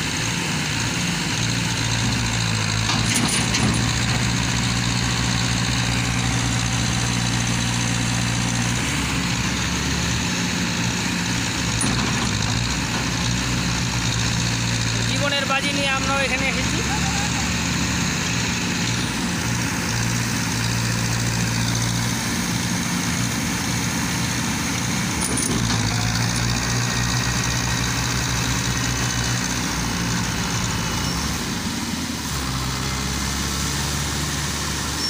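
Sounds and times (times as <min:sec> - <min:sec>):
tractor engine straining: 0:00.0 - 0:35.0.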